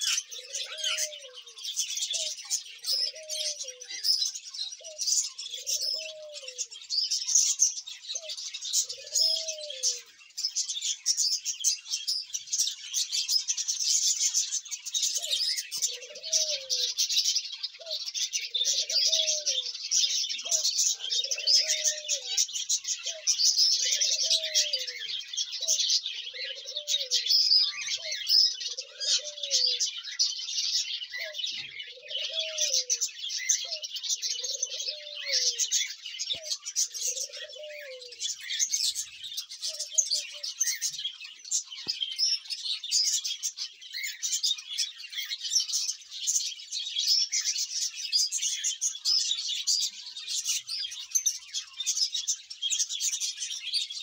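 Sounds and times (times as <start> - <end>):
dove cooing: 0.0 - 11.9, 12.6 - 53.8
budgerigars chattering and chirping: 0.0 - 54.0.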